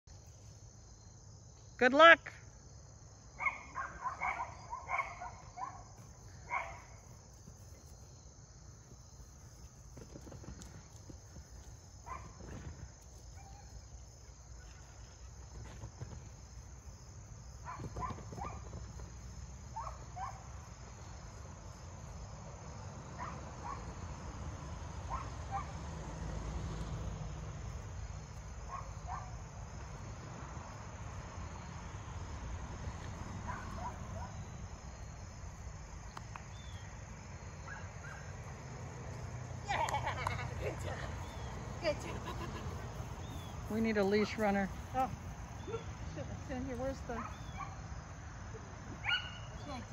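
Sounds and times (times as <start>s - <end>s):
insects trilling: 2.4s - 49.9s.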